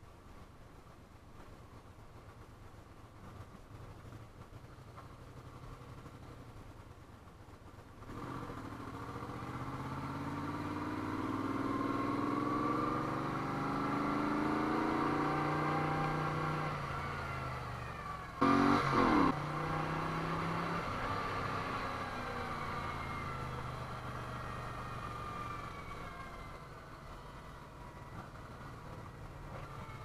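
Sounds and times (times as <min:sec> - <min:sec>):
motorcycle engine accelerating: 0:03.3 - 0:30.0.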